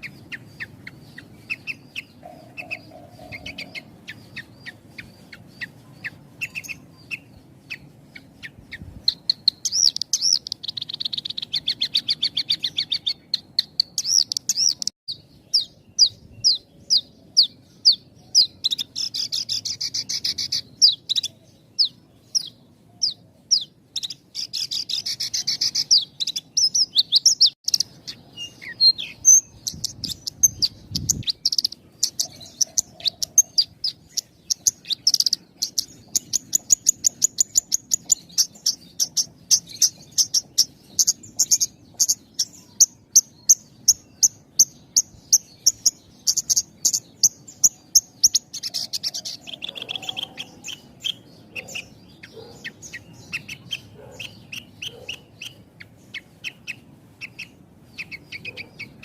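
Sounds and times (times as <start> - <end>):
lark singing high chirps and trills: 0.0 - 59.0.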